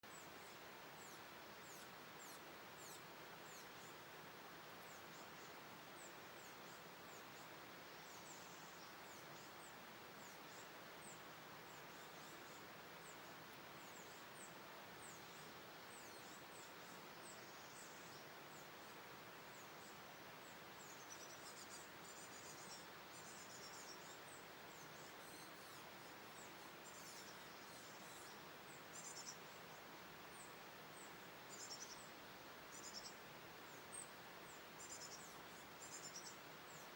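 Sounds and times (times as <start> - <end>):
small birds chirping: 0.0 - 36.9
steady hiss: 0.0 - 36.9.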